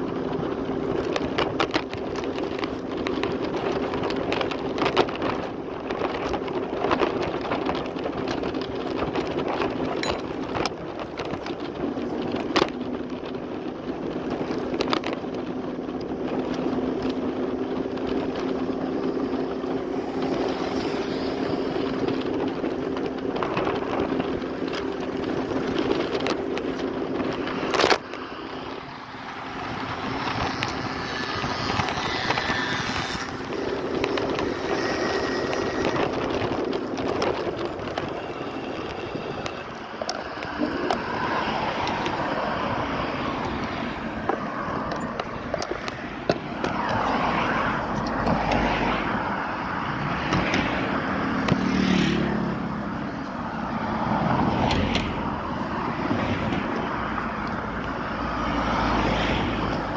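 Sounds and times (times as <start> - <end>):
road and wind noise: 0.0 - 59.9
traffic noise: 0.0 - 59.9.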